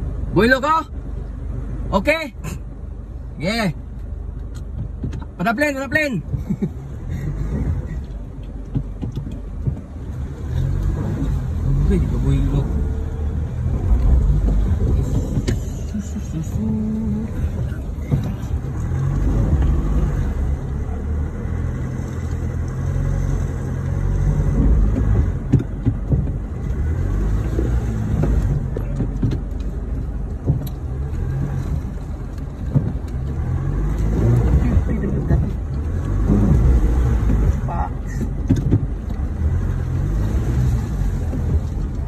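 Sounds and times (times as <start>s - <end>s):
vehicle engine running at low speed: 0.0s - 42.0s.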